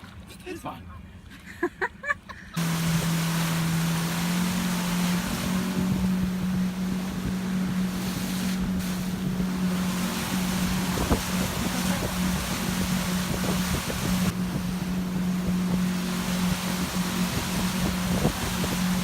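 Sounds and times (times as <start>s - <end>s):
motorboat engine droning: 2.6s - 19.0s
rushing water: 2.6s - 19.0s
wind buffeting microphone: 2.6s - 19.0s.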